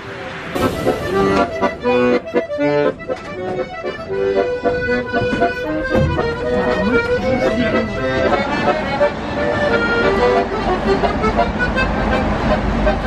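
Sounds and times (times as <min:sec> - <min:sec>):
accordion melody: 0:00.0 - 0:13.0.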